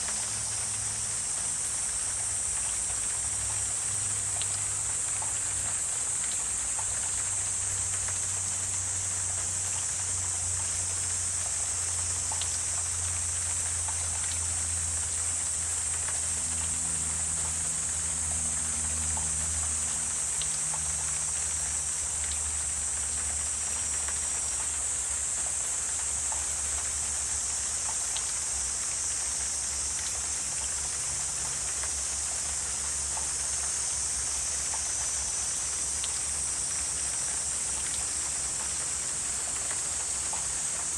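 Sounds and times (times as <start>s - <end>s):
distant insect chorus: 0.0s - 40.9s
faint ticks: 0.0s - 40.9s.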